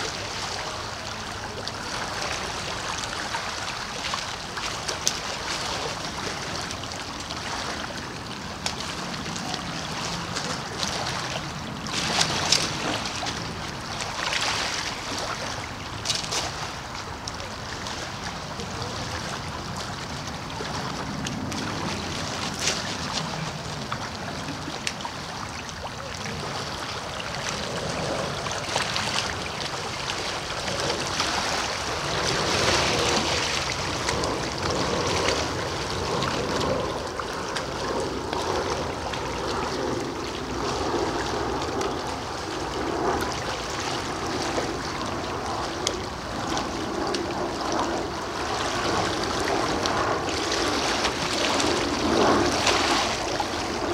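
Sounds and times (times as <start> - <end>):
waves lapping on pebbly shore: 0.0 - 53.9.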